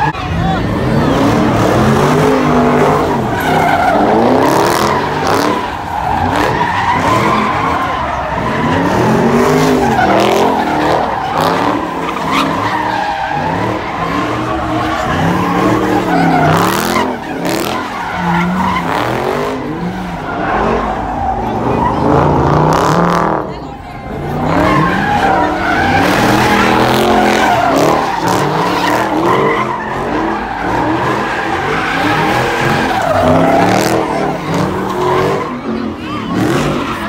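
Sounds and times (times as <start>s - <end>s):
car engine revving: 0.0s - 37.0s
tyres squealing: 0.9s - 37.0s.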